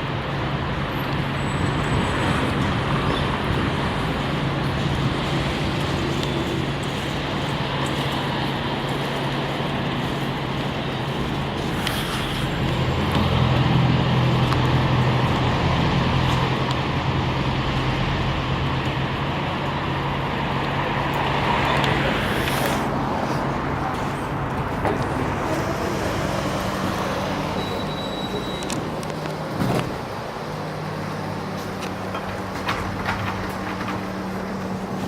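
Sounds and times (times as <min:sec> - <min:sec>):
engine hum: 0:00.0 - 0:35.0
road noise: 0:00.0 - 0:35.0.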